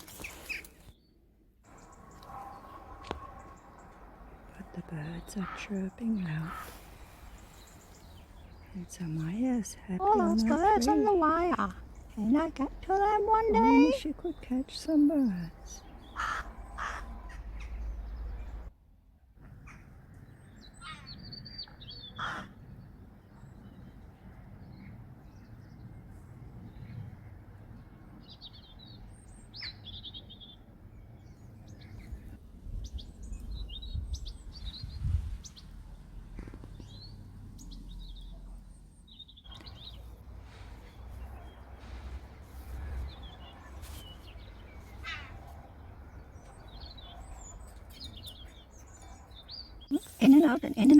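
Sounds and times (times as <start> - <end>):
small birds chirping and trilling: 0.0 - 18.7, 19.6 - 50.9.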